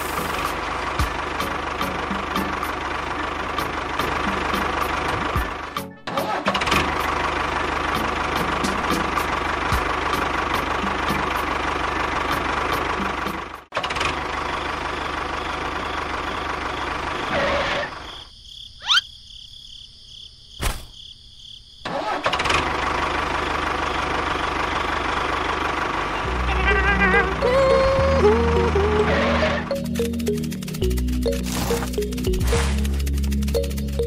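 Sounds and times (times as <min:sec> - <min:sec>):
tractor engine ticking: 0:00.2 - 0:17.1, 0:22.6 - 0:28.8, 0:29.7 - 0:34.0.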